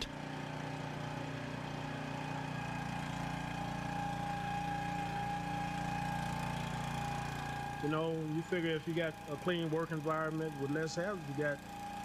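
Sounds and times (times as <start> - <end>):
pump humming with a whine: 0.0 - 12.0.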